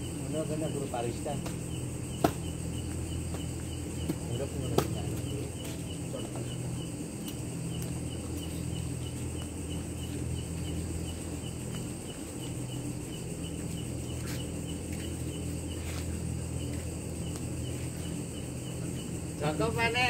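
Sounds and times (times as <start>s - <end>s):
crickets chirping: 0.0s - 20.0s
low steady hum: 0.0s - 20.0s.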